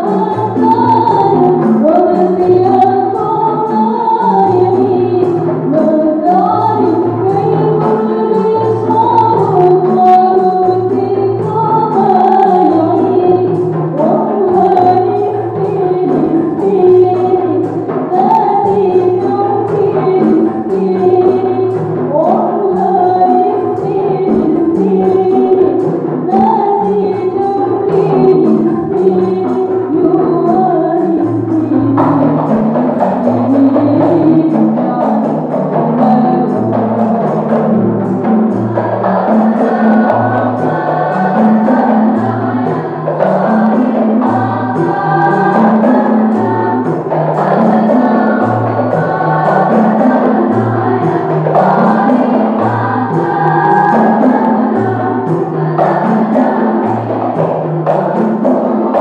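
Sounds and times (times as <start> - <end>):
frame drums and tambourines: 0.0 - 59.0
lead singer: 0.0 - 59.0
women's group singing: 0.0 - 59.0.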